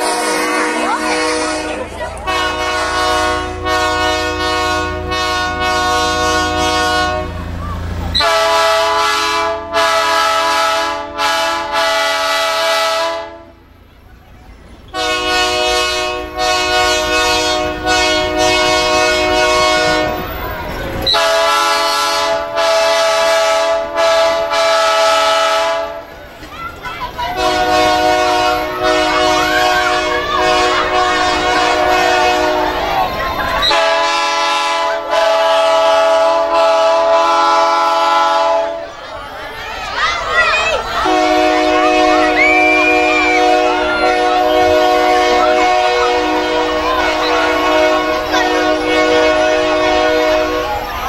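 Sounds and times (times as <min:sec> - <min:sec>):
locomotive air horn chord: 0:00.0 - 0:07.4, 0:08.1 - 0:13.7, 0:14.9 - 0:20.4, 0:21.1 - 0:26.1, 0:27.4 - 0:38.9, 0:41.0 - 0:51.0
passing train rumbling: 0:00.0 - 0:51.0.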